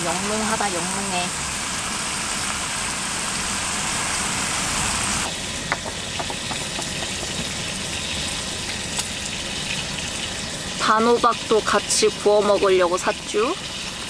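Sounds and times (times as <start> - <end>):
steak sizzling on a griddle: 0.0 - 14.0.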